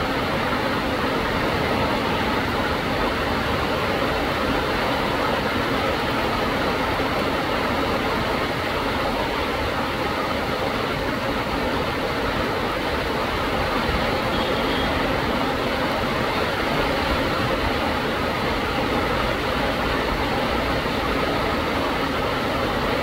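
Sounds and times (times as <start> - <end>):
heavy rain through foliage: 0.0 - 23.0.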